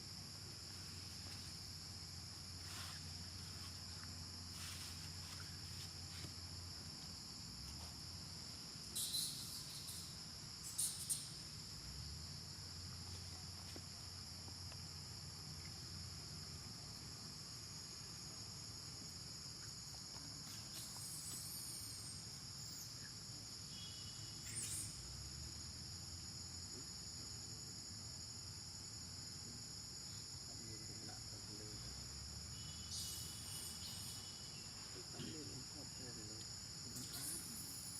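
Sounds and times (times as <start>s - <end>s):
insect chorus drone: 0.0s - 37.9s.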